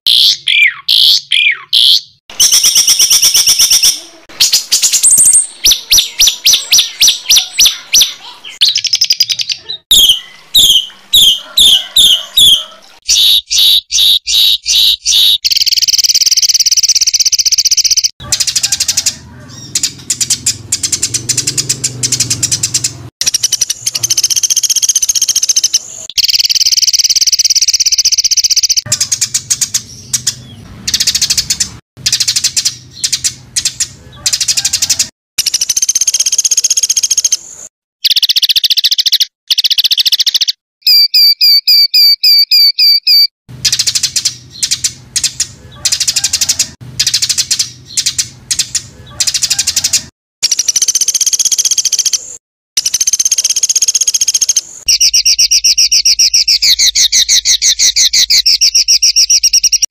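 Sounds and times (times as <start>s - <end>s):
bird repeating identical notes: 0.1s - 59.9s
bird trilling: 0.1s - 59.9s
songbirds chattering: 0.1s - 59.9s.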